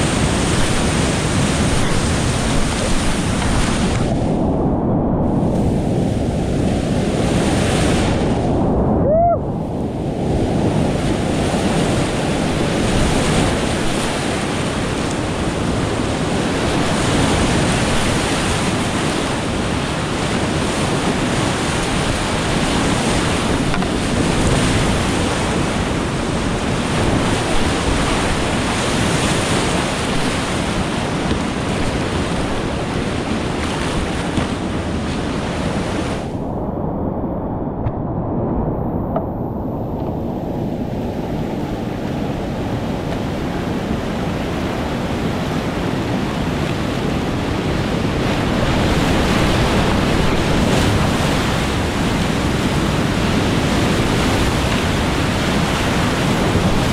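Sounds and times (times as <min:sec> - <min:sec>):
whitewater rushing: 0:00.0 - 0:04.4, 0:10.6 - 0:36.4, 0:41.0 - 0:56.9.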